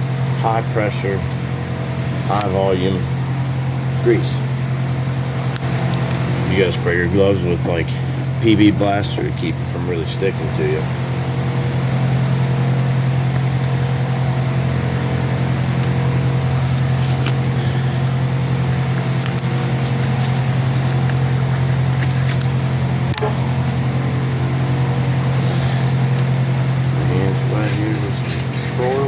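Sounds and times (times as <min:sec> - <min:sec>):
low machine hum with tones: 0:00.0 - 0:29.0.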